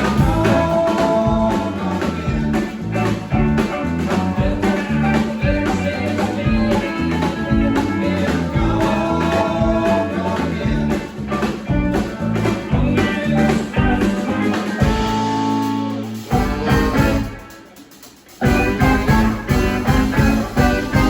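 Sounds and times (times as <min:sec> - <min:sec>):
live blues-rock band: 0:00.0 - 0:21.0.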